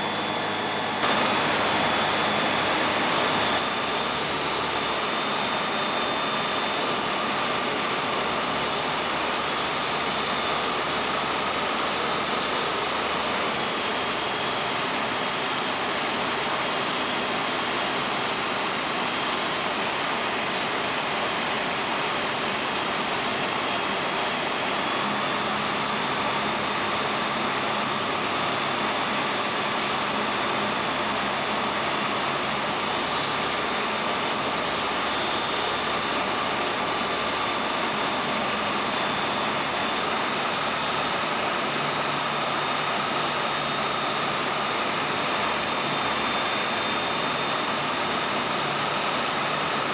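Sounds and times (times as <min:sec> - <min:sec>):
aircraft engine and propeller: 0:00.0 - 0:49.9.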